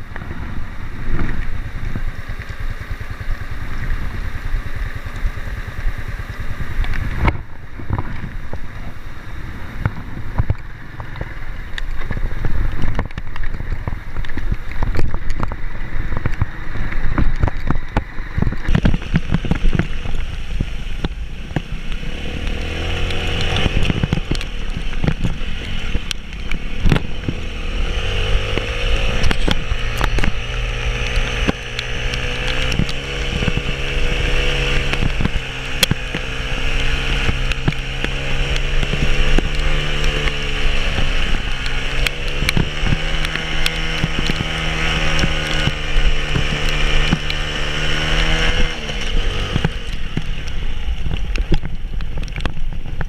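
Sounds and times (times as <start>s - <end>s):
vehicle engine running under load: 0.0s - 53.0s.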